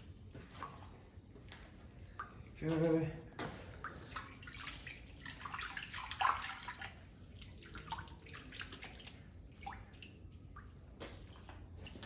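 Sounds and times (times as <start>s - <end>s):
water splashing and dripping: 2.0s - 12.0s.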